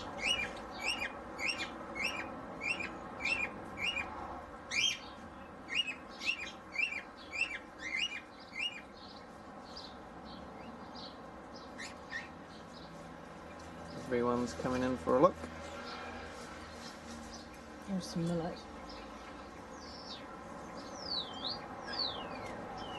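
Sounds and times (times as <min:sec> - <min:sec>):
bird chirping: 0:00.0 - 0:16.0, 0:16.6 - 0:22.9.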